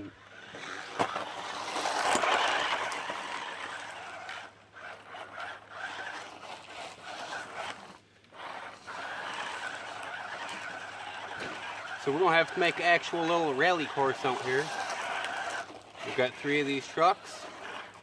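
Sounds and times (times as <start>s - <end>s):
electric motor whirring: 0.0s - 18.0s
tyres scratching and spraying grit: 0.0s - 18.0s.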